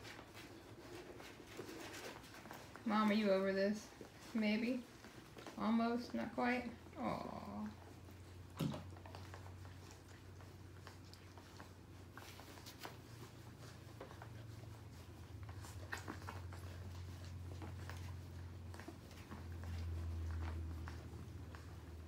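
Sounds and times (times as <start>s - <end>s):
puppies suckling smacking clicks: 0.0s - 7.0s, 7.8s - 22.0s.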